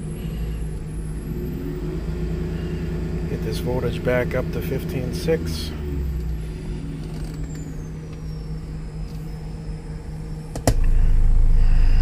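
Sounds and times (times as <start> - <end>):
deep subwoofer test tone: 0.0 - 12.0
low hum in truck cabin: 0.0 - 12.0.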